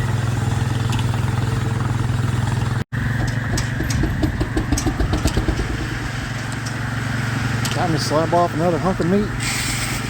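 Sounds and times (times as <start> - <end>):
steam sawmill low hum: 0.0 - 10.0.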